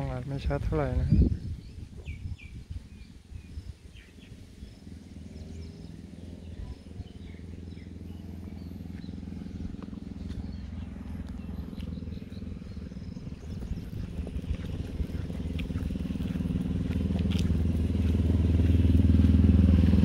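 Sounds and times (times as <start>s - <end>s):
birds chirping: 0.0s - 20.0s
low engine hum: 0.0s - 20.0s.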